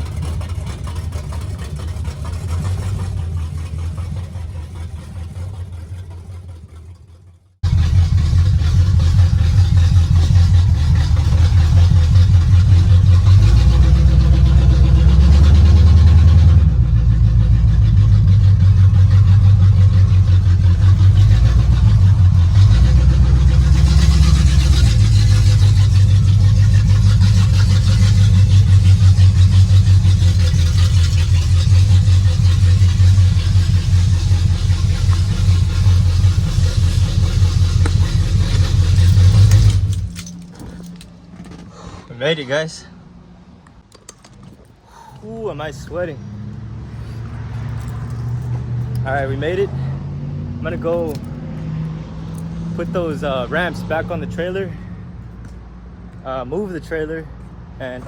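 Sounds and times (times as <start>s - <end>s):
deep truck exhaust rumble: 0.0s - 43.9s, 44.8s - 58.0s.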